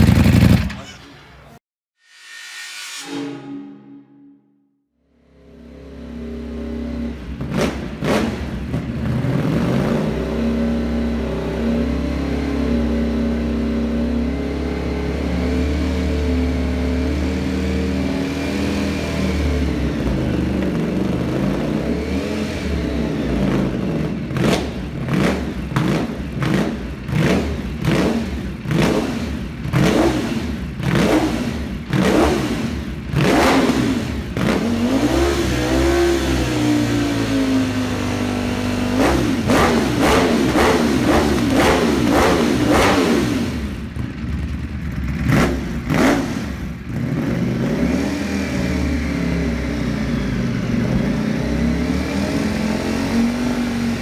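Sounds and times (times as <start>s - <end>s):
motorcycle engine idling and revving: 0.0s - 1.6s, 5.2s - 54.0s.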